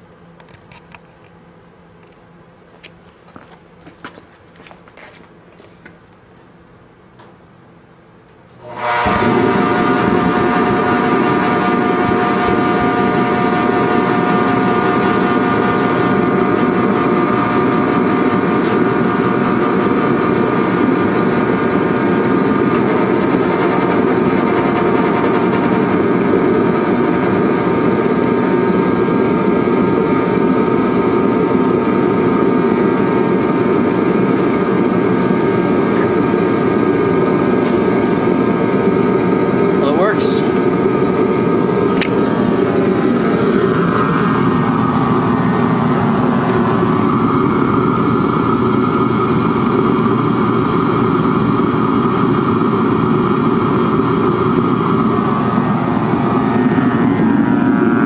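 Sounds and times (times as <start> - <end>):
heater fan rushing with whine: 0.0 - 58.0.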